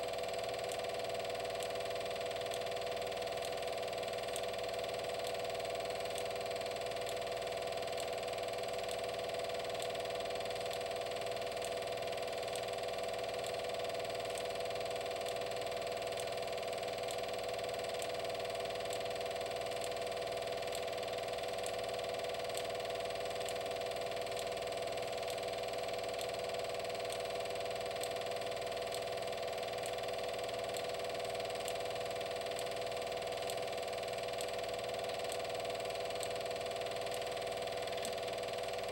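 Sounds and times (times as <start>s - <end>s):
mechanical hum: 0.0s - 38.9s.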